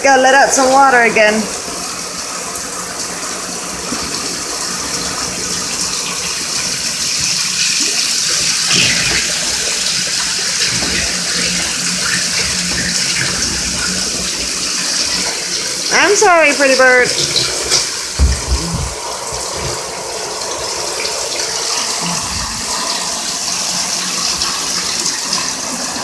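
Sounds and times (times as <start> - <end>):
shower water running into bathtub: 0.0 - 26.0.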